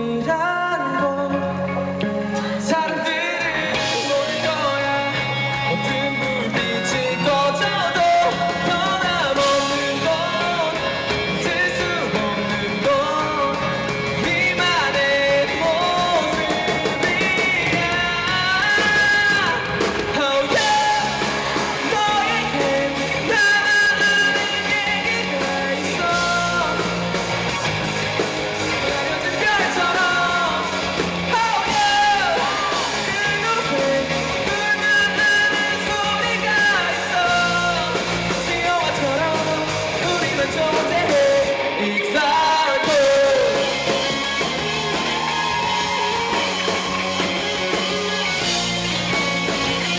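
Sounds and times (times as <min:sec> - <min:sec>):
person singing: 0:00.0 - 0:27.6, 0:28.5 - 0:49.9
rock band playing live: 0:00.0 - 0:49.9.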